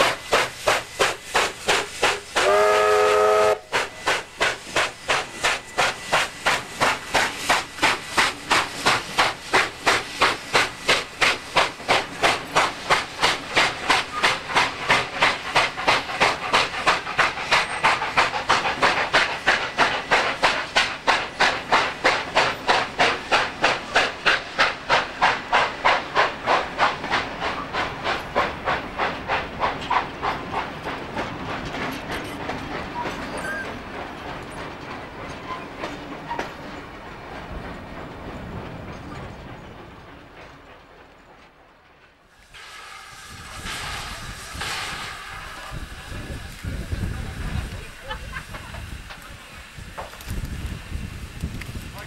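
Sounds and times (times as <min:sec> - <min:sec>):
steam hiss: 0:00.0 - 0:40.0, 0:42.0 - 0:52.0
steam locomotive chuffing: 0:00.0 - 0:52.0.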